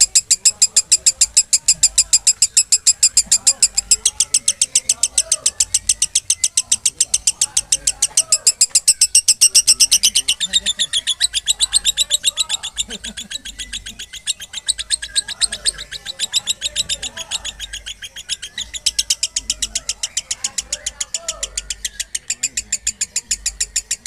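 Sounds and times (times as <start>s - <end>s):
lovebird chattering: 0.0s - 24.0s.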